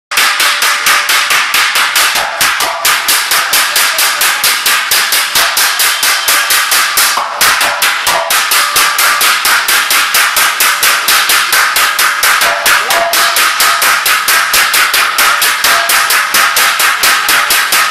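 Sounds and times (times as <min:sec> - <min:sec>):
hammers beating on sheet metal: 0:00.1 - 0:17.9.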